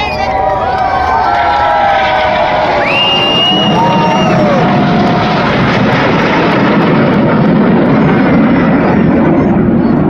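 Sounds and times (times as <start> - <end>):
aircraft flying past: 0.5 - 10.0.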